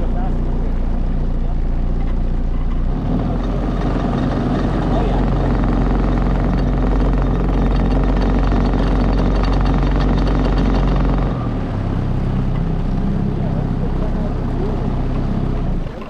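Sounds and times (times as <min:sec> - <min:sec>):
motorboat engine humming: 0:00.0 - 0:16.0.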